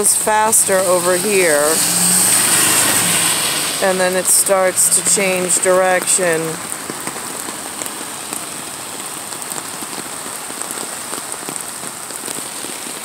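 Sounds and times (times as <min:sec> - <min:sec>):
rain on asphalt street: 0:00.0 - 0:13.0
rain on umbrella: 0:00.0 - 0:13.0.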